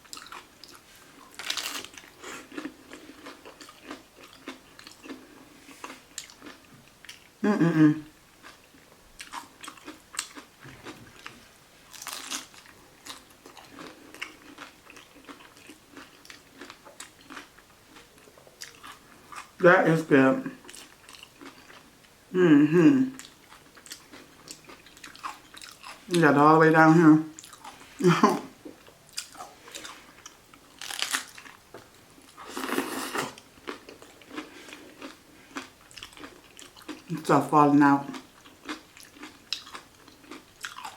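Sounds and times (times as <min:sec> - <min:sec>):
crunchy chewing and biting: 0:00.0 - 0:07.3, 0:08.4 - 0:19.6, 0:20.6 - 0:21.9, 0:23.2 - 0:26.1, 0:28.8 - 0:31.6, 0:32.2 - 0:37.1, 0:38.0 - 0:40.9.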